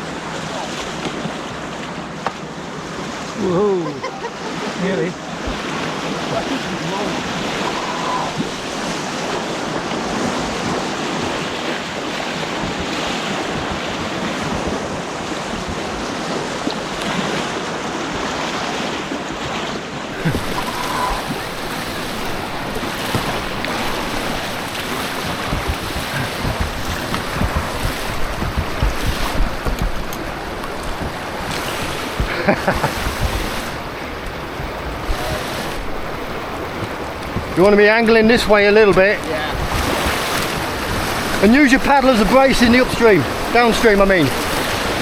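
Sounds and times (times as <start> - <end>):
whitewater rushing through rapids: 0.0 - 45.0
wind buffeting microphone: 4.2 - 45.0.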